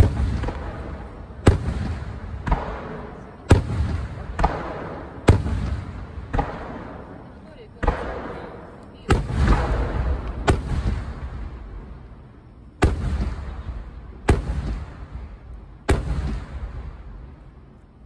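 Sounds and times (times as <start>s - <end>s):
firework shells booming: 0.0s - 17.8s.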